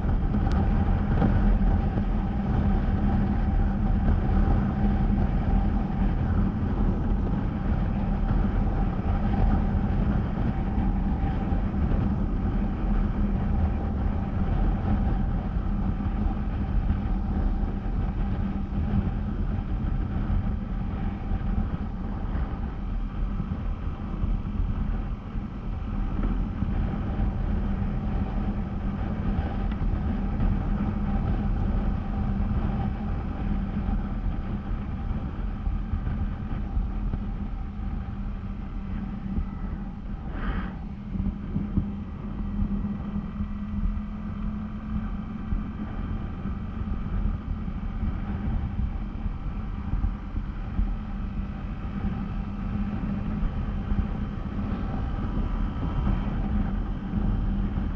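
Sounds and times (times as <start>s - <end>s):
motorcycle engine running: 0.0s - 57.9s
wind rumble on microphone: 0.0s - 57.9s.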